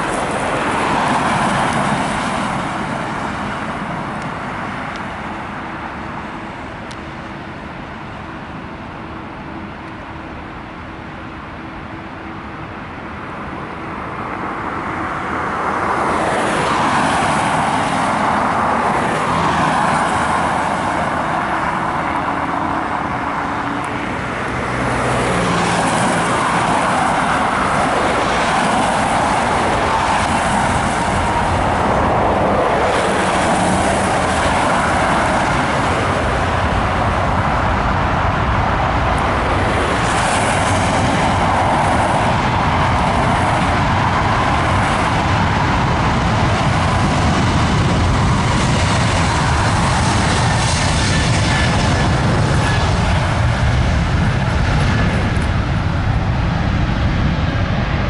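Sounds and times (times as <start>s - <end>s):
jet engines spooling up: 0.0s - 58.0s.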